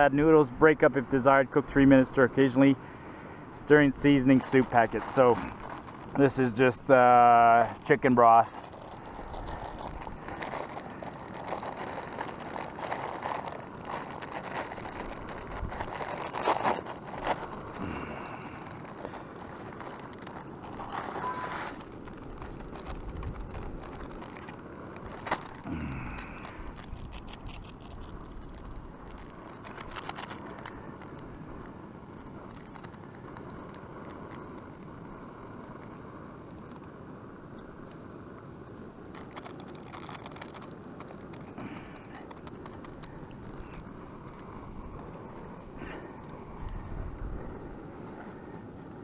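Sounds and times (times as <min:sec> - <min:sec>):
camping stove hissing: 0:00.0 - 0:49.0.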